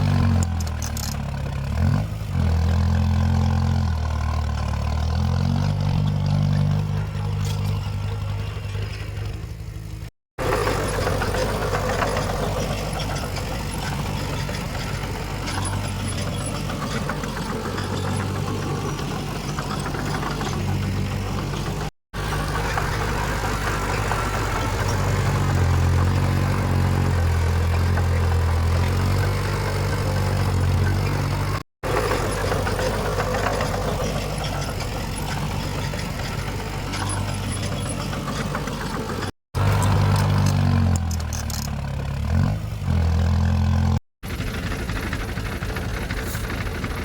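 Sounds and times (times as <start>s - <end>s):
heavy diesel machinery engine: 0.0s - 47.0s.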